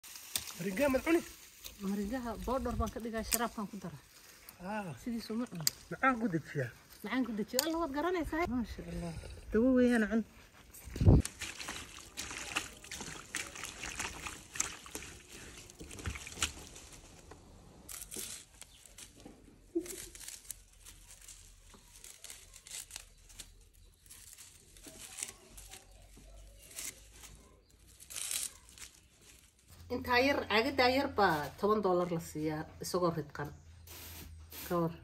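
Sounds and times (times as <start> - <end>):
leaves rustling and crackling: 0.0 - 8.5, 9.9 - 31.8.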